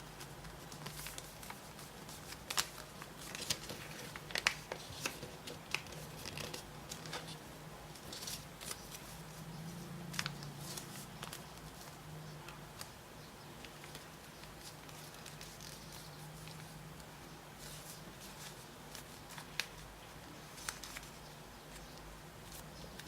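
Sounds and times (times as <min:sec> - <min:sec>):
paper crinkling and rustling: 0:00.0 - 0:13.0, 0:13.6 - 0:23.0.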